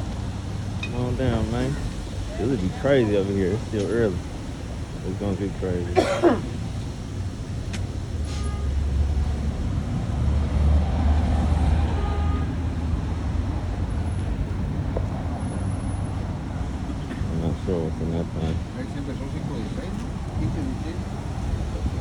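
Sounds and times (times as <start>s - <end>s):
heavy vehicle engine rumble: 0.0s - 22.0s.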